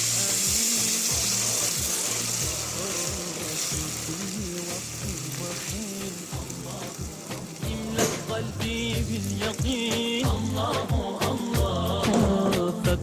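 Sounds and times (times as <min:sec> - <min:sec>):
man singing nasheed: 0:00.0 - 0:13.0
water sizzling in hot pot: 0:00.0 - 0:13.0.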